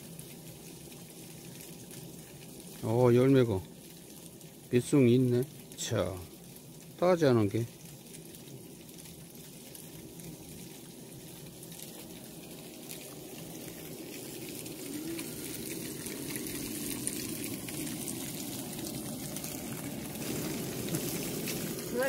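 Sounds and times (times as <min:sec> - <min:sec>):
tofu sizzling in oil: 0:00.0 - 0:22.0.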